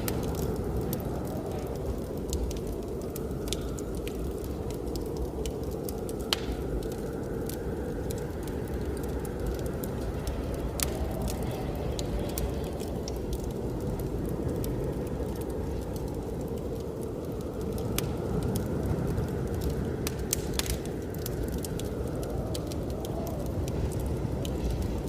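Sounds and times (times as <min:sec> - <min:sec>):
blizzard wind rushing: 0:00.0 - 0:25.0
wood fire crackling: 0:00.0 - 0:25.0.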